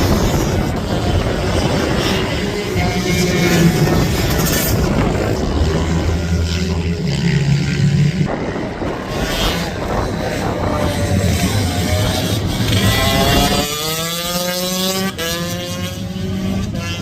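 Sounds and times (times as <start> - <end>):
constant wash of noise: 0.0 - 17.0
minibike engines droning: 0.0 - 17.0.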